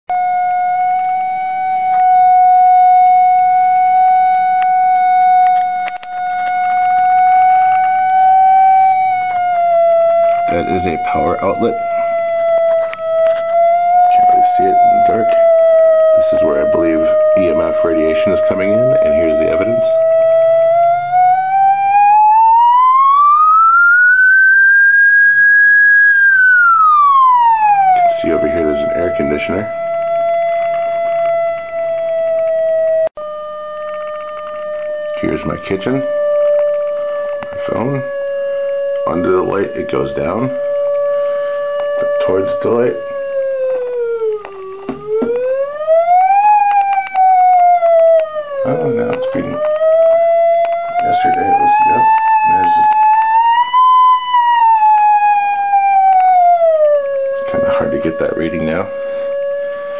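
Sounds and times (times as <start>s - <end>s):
steady electronic tone: 0.1s - 59.9s.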